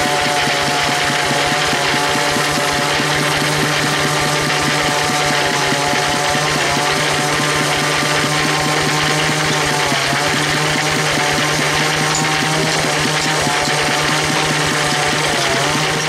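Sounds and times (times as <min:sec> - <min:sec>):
bandsaw mill drive chugging: 0:00.0 - 0:16.0
bandsaw mill hum: 0:00.0 - 0:16.0.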